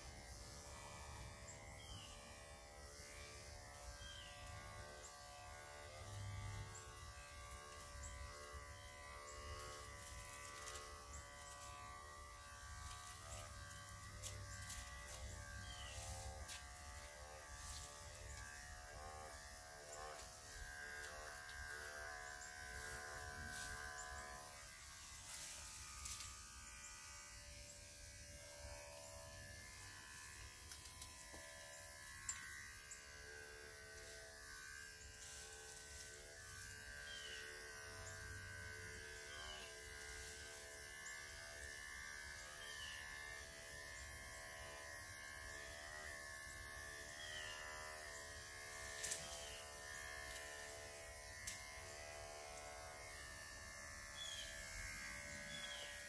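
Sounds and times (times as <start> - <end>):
electric clippers buzzing: 0.0 - 56.0.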